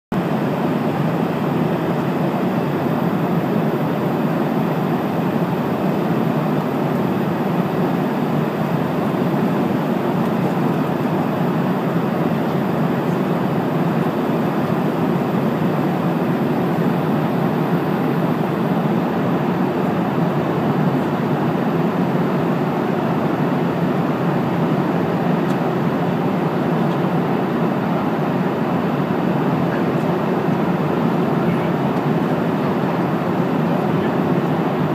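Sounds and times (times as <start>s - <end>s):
airplane cabin drone: 0.2s - 34.9s.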